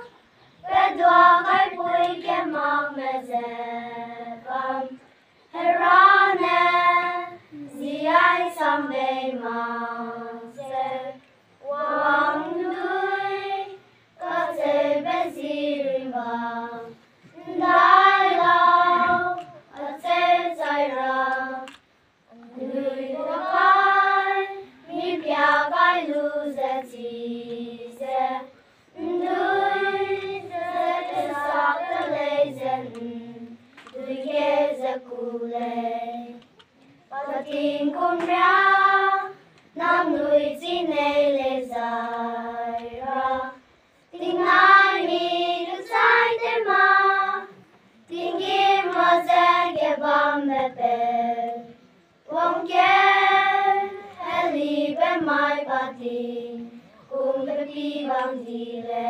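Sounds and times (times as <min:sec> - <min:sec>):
choir of high voices singing: 0:00.0 - 0:36.5, 0:37.1 - 0:59.0.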